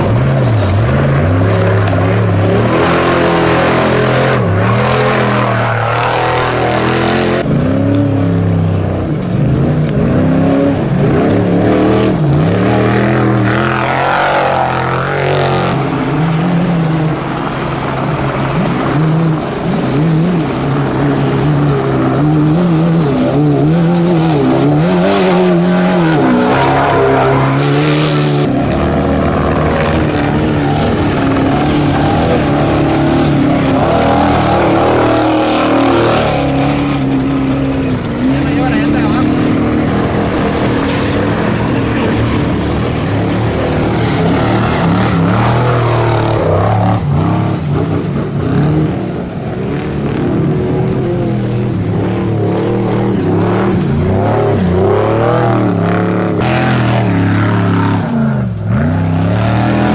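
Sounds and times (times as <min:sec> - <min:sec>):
off-road trucks engines revving: 0:00.0 - 0:59.9.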